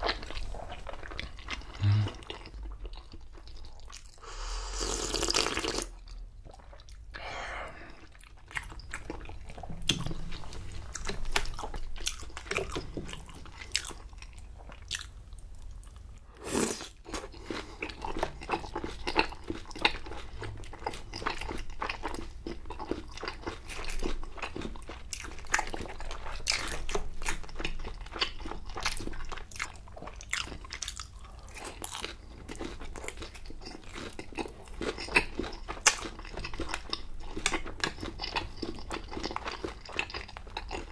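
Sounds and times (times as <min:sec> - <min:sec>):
crunchy chewing of fried food: 0:00.0 - 0:07.1, 0:07.9 - 0:40.9.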